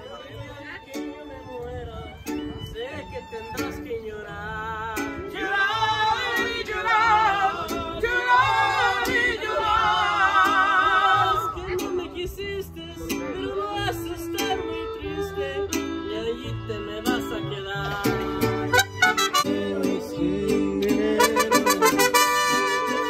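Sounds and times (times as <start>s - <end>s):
strummed strings and bass: 0.0s - 23.0s
violin: 0.0s - 23.0s
men singing with vibrato: 4.0s - 23.0s.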